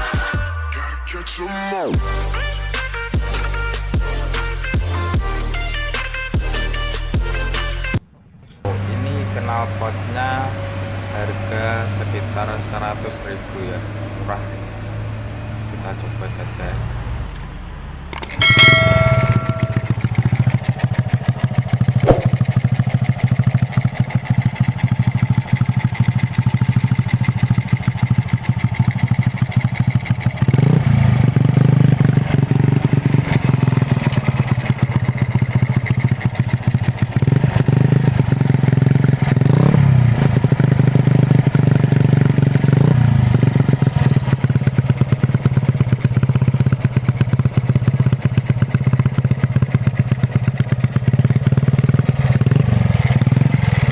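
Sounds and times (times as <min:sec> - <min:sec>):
motorcycle engine idling and revving: 0:08.4 - 0:53.9.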